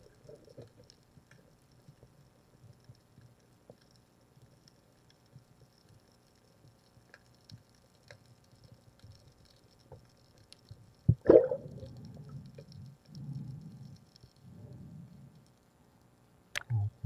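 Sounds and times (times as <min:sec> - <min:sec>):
faint underwater crackling clicks: 0:00.0 - 0:16.8.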